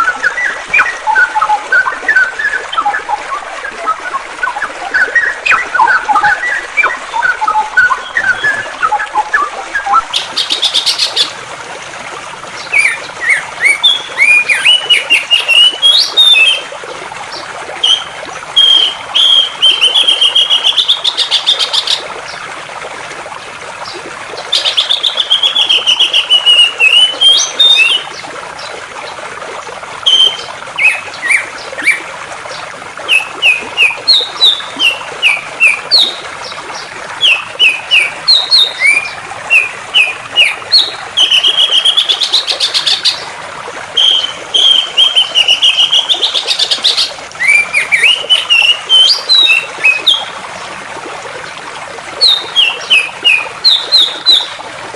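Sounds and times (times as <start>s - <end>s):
flowing water: 0.0s - 54.9s.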